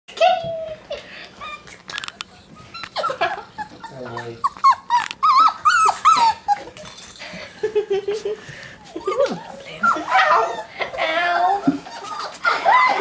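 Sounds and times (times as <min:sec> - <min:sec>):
puppy whining: 0:00.2 - 0:07.5, 0:08.7 - 0:13.0
puppies yipping and whimpering: 0:00.4 - 0:07.2, 0:08.7 - 0:13.0.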